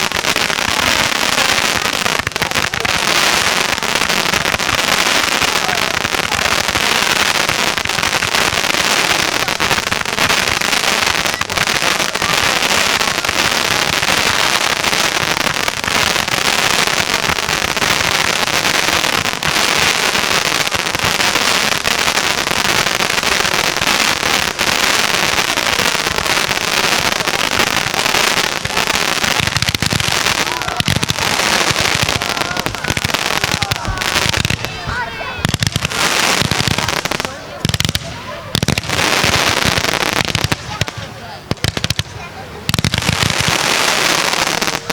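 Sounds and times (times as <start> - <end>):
fireworks crackling pops: 0.0 - 44.9.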